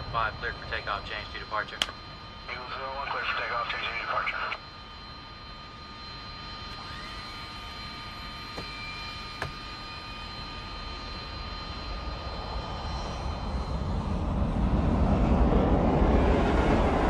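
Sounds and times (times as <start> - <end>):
jet aircraft rumble: 0.0 - 17.0.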